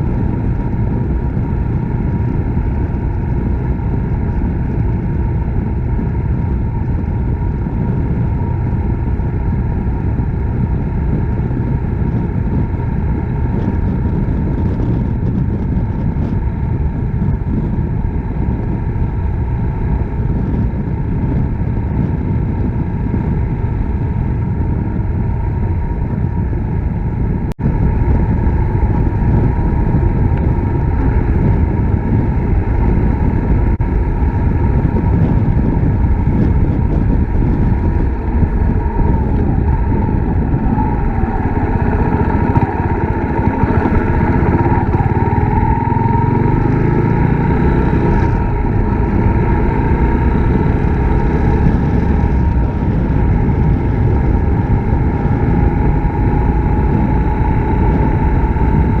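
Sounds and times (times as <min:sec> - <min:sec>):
motorcycle engine running: 0:00.0 - 0:59.0
riding wind rush: 0:00.0 - 0:59.0.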